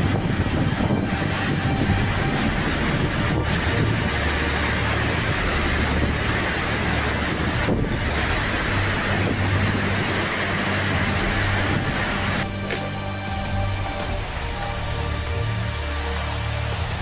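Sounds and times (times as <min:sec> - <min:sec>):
loud rushing noise: 0:00.0 - 0:17.0
low steady hum: 0:00.0 - 0:17.0.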